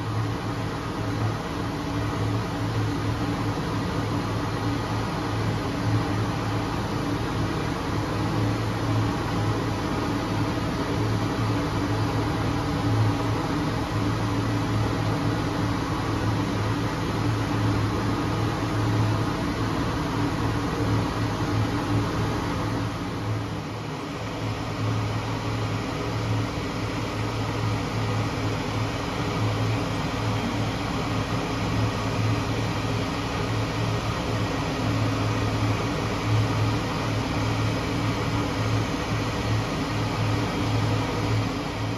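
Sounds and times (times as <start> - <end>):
machine hum: 0.0 - 41.9.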